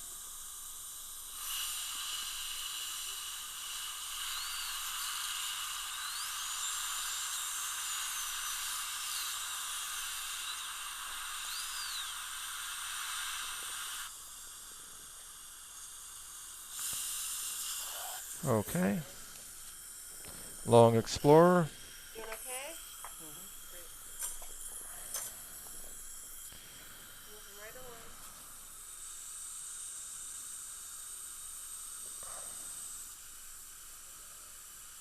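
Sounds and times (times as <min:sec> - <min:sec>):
dental drill whining: 0:00.0 - 0:35.0.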